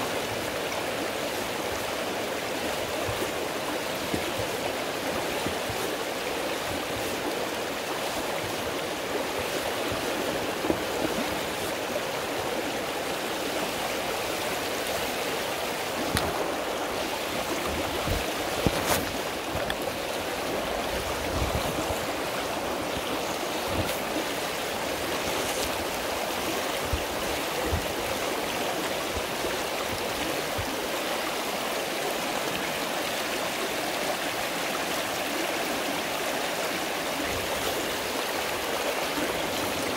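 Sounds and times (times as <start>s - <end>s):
river rushing over gravel: 0.0s - 39.9s.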